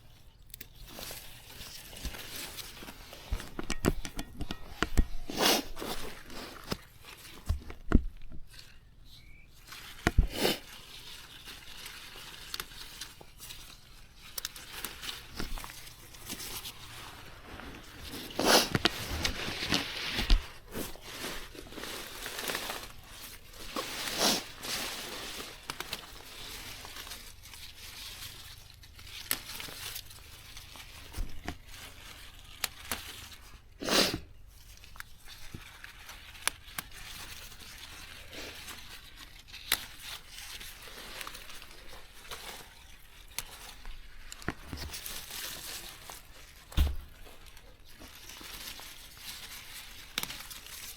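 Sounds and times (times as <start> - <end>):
plants rustling and tearing: 0.0 - 50.9.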